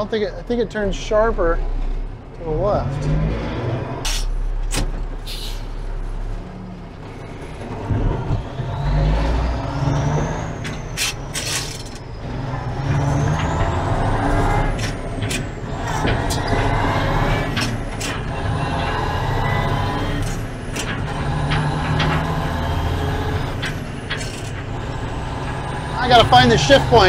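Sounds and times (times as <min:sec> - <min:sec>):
diesel truck engine shifting gears: 0:00.0 - 0:27.0
engine whine: 0:00.0 - 0:27.0.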